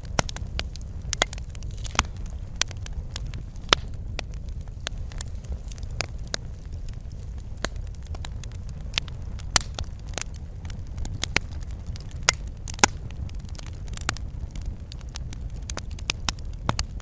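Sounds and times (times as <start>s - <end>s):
flames rumbling: 0.0s - 17.0s
sharp fire pops and snaps: 0.0s - 17.0s.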